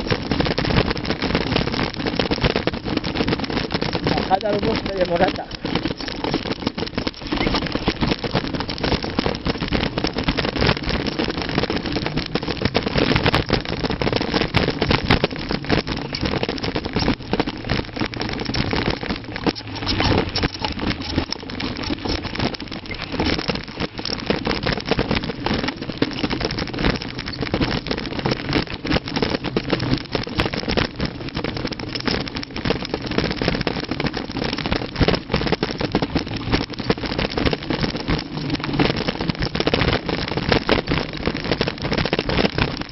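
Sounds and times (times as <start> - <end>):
bike rattling over stones: 0.0 - 42.9
wind on microphone: 0.0 - 42.9.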